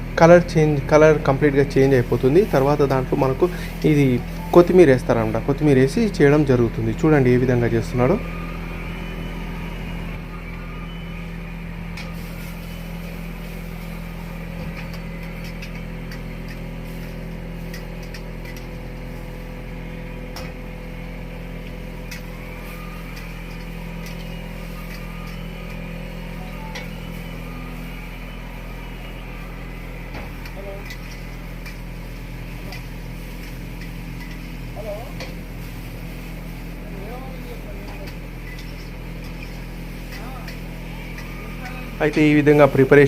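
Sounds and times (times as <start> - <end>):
low mechanical hum of wok station: 0.0 - 43.0.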